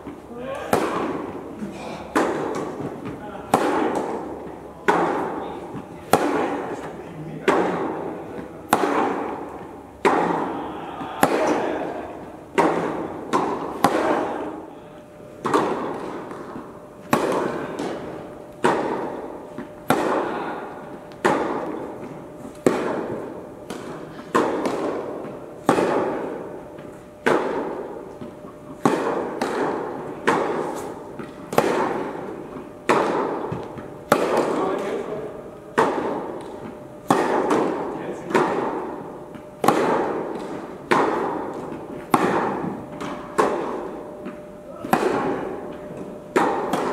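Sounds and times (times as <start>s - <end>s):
tennis ball bouncing: 0.0s - 14.7s, 15.3s - 46.9s
racket hitting tennis ball: 0.0s - 46.9s.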